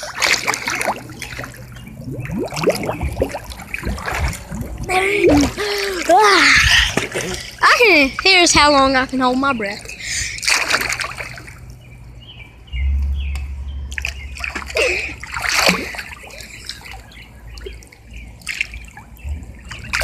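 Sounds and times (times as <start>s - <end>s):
water splashing and sloshing: 0.0s - 12.2s, 12.9s - 20.0s
low steady hum: 0.0s - 20.0s.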